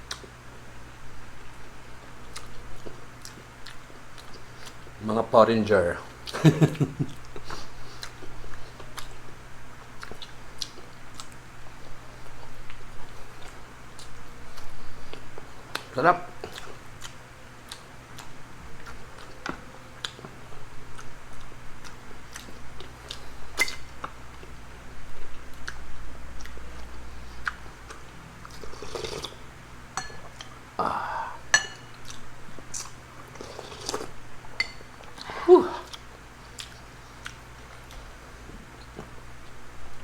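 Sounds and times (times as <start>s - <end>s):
chewing: 2.2s - 4.9s, 7.2s - 24.6s, 25.4s - 30.6s, 31.6s - 39.6s.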